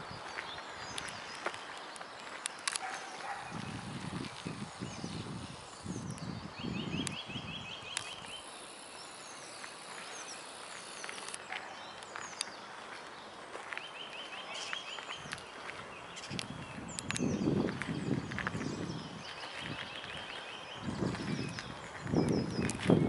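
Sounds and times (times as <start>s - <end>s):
songbirds singing and chirping: 0.0s - 23.0s.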